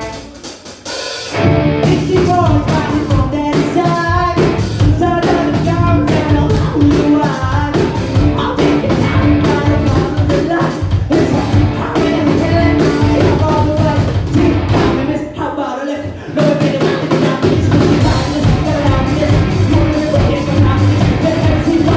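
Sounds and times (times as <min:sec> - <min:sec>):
live rock band: 0:00.0 - 0:21.9
person singing: 0:01.4 - 0:21.9.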